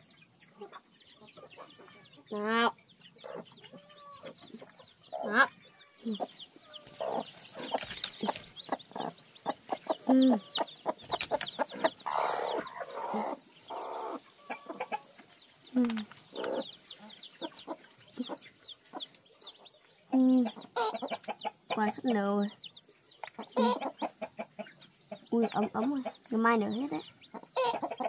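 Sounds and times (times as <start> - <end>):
chicks peeping: 0.0 - 28.0
hen clucking: 0.0 - 28.0.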